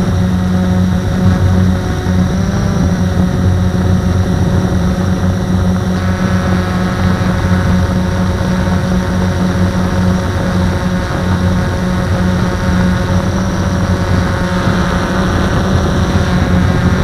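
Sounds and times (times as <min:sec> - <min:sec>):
drone motors whirring: 0:00.0 - 0:17.0.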